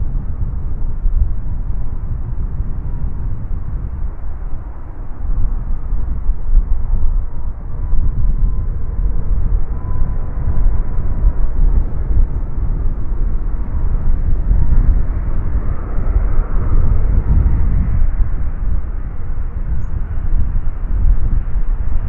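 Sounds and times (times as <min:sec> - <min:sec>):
airliner jet engines whining: 0:00.0 - 0:22.0
wind buffeting microphone: 0:00.0 - 0:22.0.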